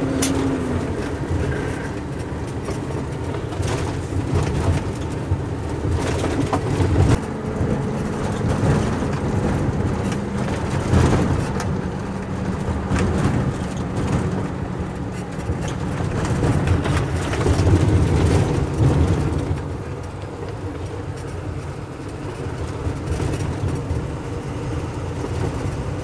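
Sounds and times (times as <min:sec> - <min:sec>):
diesel engine running: 0:00.0 - 0:26.0
truck body knocking and rattling: 0:00.0 - 0:26.0.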